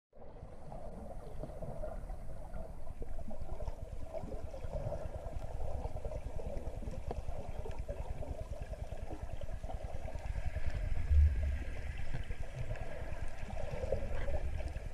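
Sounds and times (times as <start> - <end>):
low rumble of moving water: 0.1 - 14.9.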